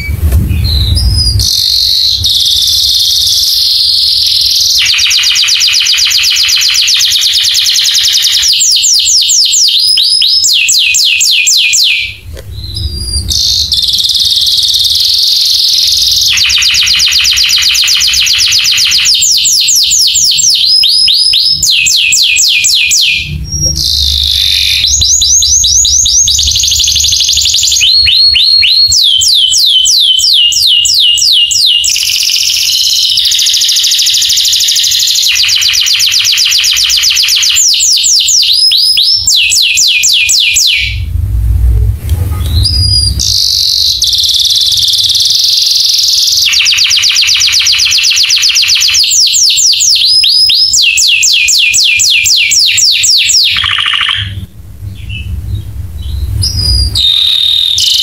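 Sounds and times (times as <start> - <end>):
canary singing trills: 0.0 - 41.1, 42.4 - 58.0.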